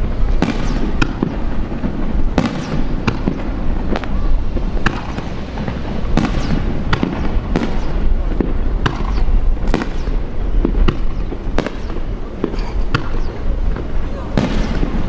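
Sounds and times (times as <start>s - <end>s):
fireworks bangs: 0.0s - 15.0s
fireworks crackle: 0.0s - 15.0s
low rumble: 0.0s - 15.0s.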